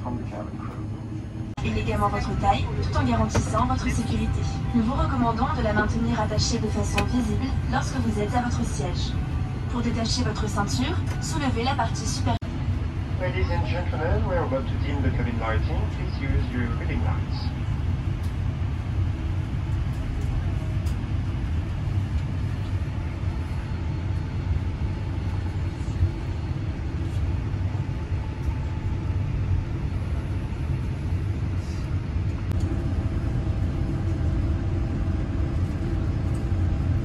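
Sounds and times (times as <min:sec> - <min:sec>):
aircraft cabin low rumble: 0:00.0 - 0:37.0.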